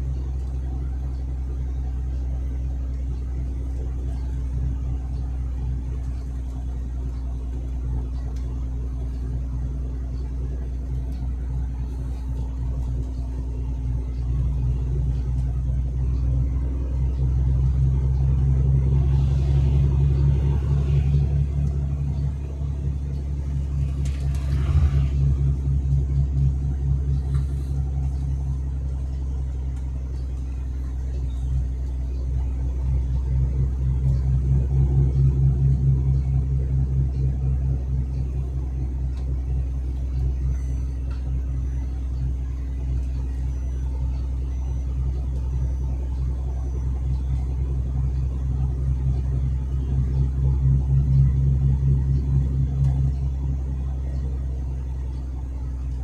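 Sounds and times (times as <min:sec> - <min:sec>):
road noise: 0:00.0 - 0:56.0
truck diesel engine: 0:00.0 - 0:56.0.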